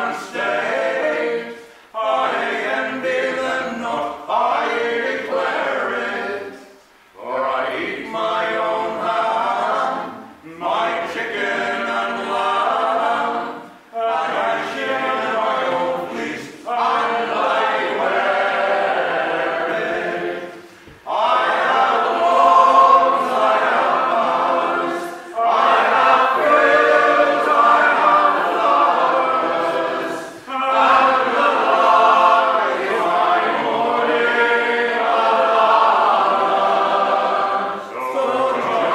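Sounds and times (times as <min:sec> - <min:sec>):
men singing a cappella: 0:00.0 - 0:38.9.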